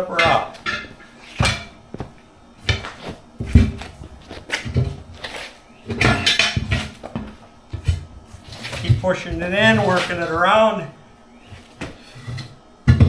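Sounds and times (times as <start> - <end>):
tire irons knocking and scraping: 0.0 - 10.7, 11.4 - 13.0.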